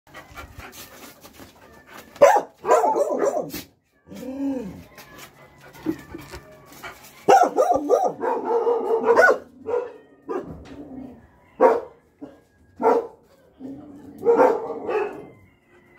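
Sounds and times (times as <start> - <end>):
dogs barking and yipping: 0.1 - 3.7, 4.8 - 10.7, 11.6 - 15.9.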